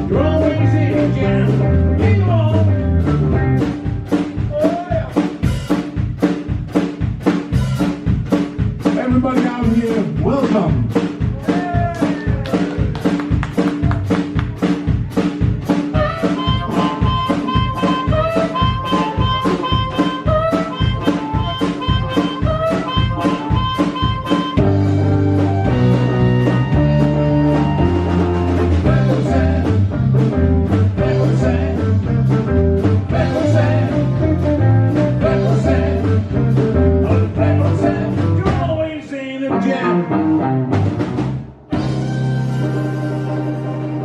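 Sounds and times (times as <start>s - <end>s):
drum beat: 0.0s - 38.9s
blues band playing: 0.0s - 44.0s.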